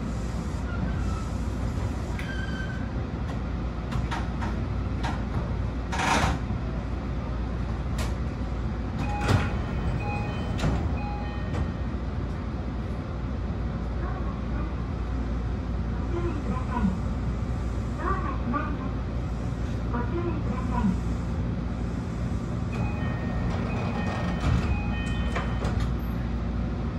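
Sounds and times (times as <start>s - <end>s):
electric train rumble: 0.0s - 26.9s.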